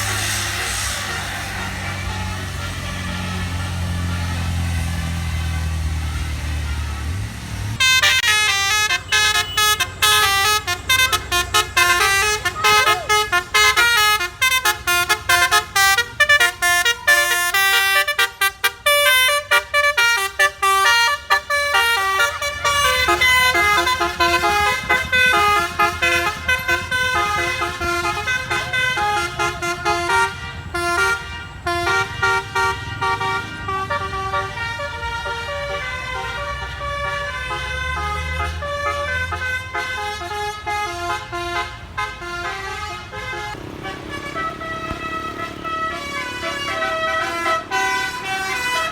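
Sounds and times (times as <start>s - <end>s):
musical air horn melody: 0.0s - 7.2s, 7.8s - 48.9s
bus engine running: 0.0s - 48.9s.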